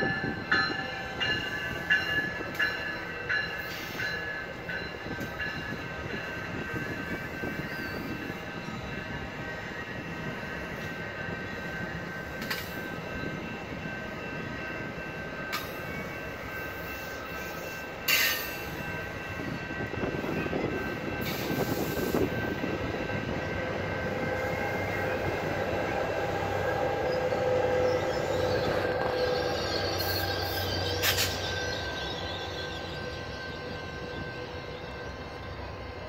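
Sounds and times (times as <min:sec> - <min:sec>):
diesel locomotive engine hum: 0:00.0 - 0:36.0
sharp train clanks: 0:00.0 - 0:36.0
train wheels squealing: 0:00.0 - 0:36.0.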